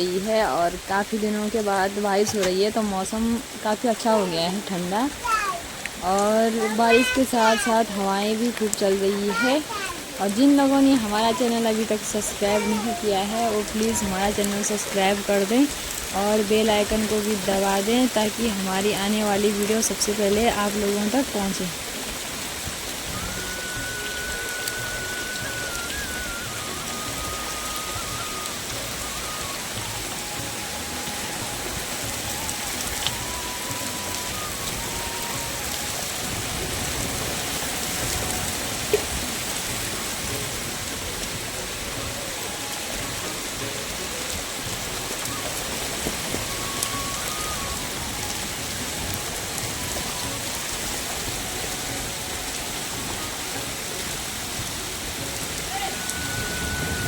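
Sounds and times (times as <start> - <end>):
heavy rain falling: 0.0 - 57.0
raindrops ticking close by: 0.0 - 57.0.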